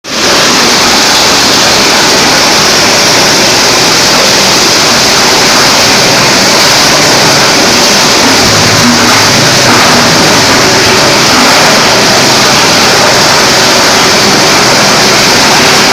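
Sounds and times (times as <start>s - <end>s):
plastic grinder machine whirring: 0.0s - 15.9s.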